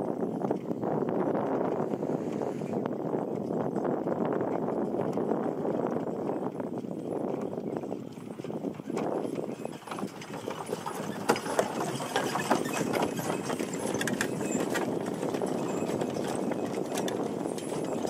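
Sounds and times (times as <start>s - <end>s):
horse hooves clopping on dirt: 0.0s - 18.0s
wagon wheels rolling: 0.0s - 18.0s.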